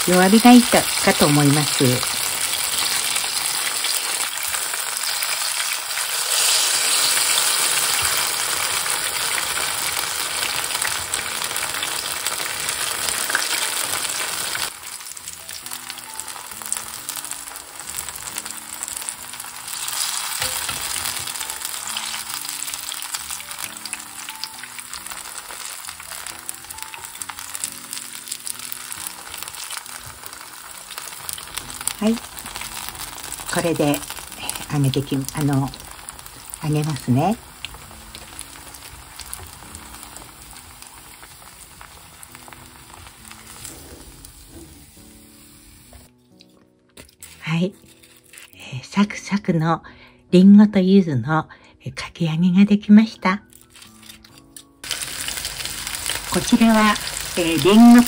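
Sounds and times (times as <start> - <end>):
fritters sizzling in oil: 0.0 - 46.1, 53.6 - 58.0.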